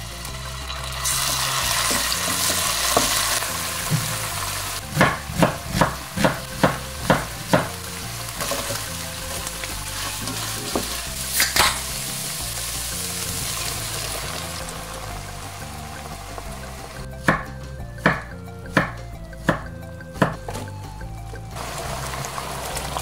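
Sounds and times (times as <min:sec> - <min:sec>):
garlic sizzling in hot oil: 0:00.0 - 0:17.4, 0:21.5 - 0:23.0.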